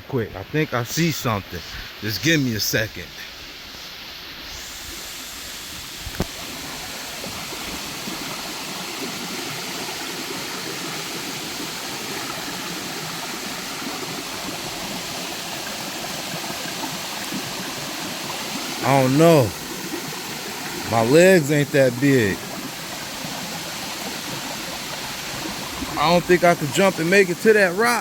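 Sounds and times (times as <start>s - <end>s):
water running over rocks: 1.0s - 28.0s.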